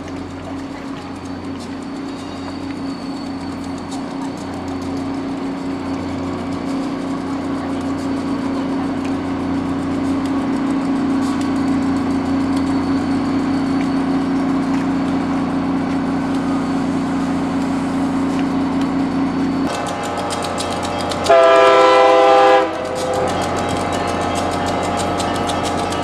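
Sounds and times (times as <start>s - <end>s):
diesel locomotive idling: 0.0s - 26.0s.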